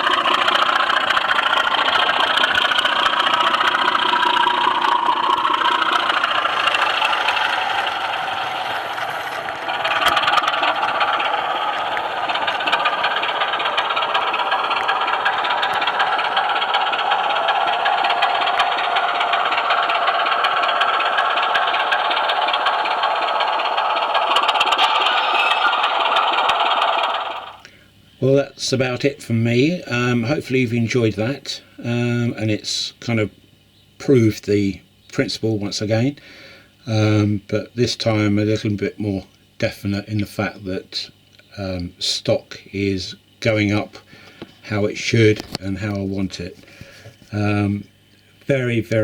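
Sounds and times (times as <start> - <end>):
model train motor and wheels: 0.0 - 49.0.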